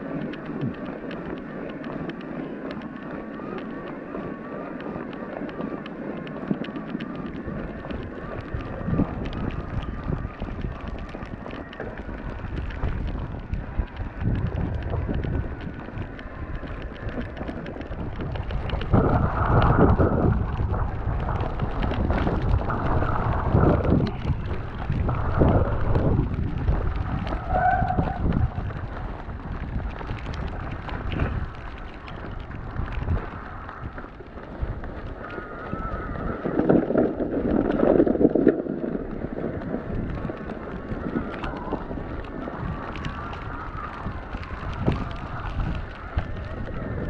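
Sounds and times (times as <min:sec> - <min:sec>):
wind rumbling on microphone: 0:00.0 - 0:47.0.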